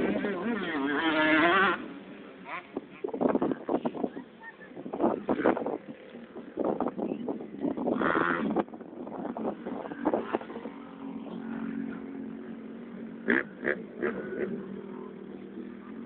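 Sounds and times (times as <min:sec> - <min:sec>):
motocross bike engine running: 0:00.0 - 0:03.9, 0:05.0 - 0:16.0.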